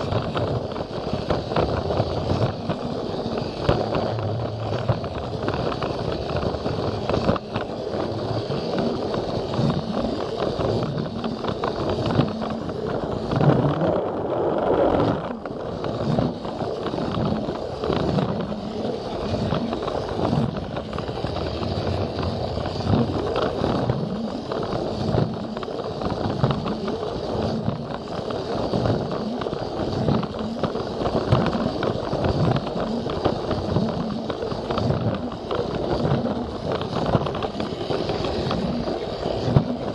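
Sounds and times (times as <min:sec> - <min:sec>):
toy train motor whirring: 0:00.0 - 0:39.9.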